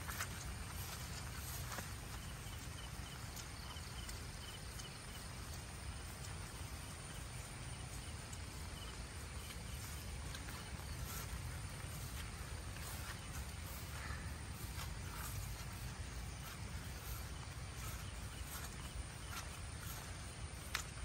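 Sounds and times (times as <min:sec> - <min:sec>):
steady hiss with low rumble: 0:00.0 - 0:21.0.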